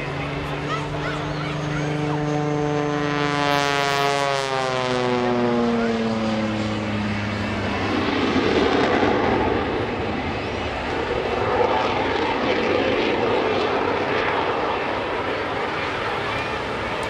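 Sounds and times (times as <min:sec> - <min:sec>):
biplane flying past: 0:00.0 - 0:17.0.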